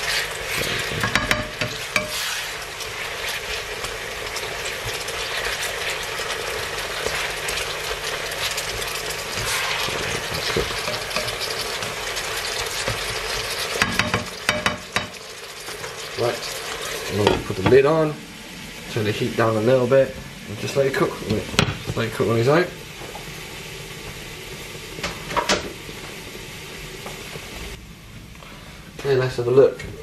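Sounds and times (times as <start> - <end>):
food sizzling in a frying pan: 0.0 - 27.8.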